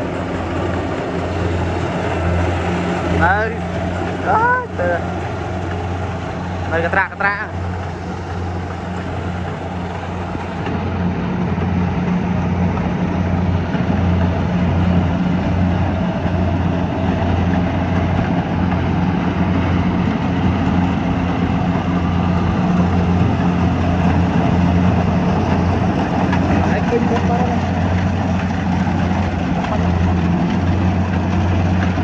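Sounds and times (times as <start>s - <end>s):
combine harvester engine running: 0.0s - 32.0s
threshing gear humming: 0.0s - 32.0s.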